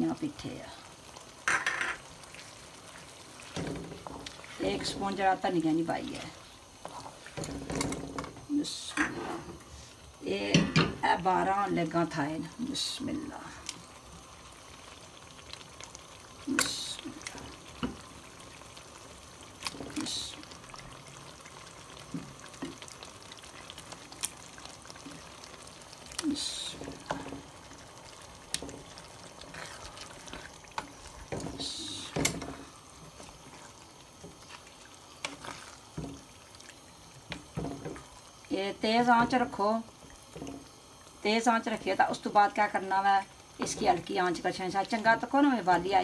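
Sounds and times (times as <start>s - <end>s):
faint liquid bubbling: 0.0s - 46.0s.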